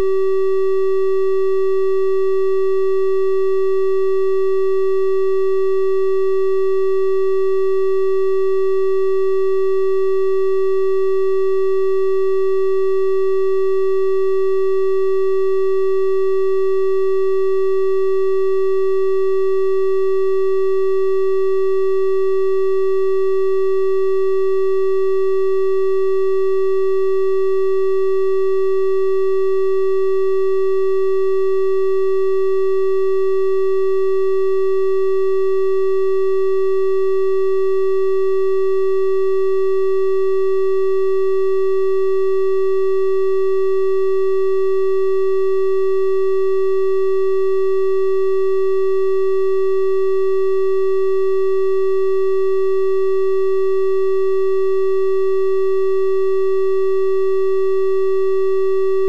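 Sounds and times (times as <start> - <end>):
synthesized steady tone: 0.0 - 59.0.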